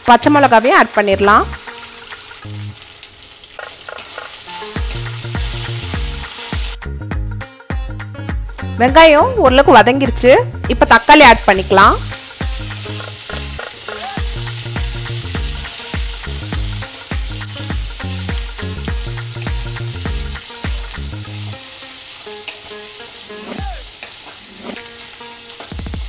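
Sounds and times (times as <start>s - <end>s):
vegetables sizzling in hot oil: 0.0s - 6.8s, 8.5s - 26.0s
low background music: 4.0s - 26.0s.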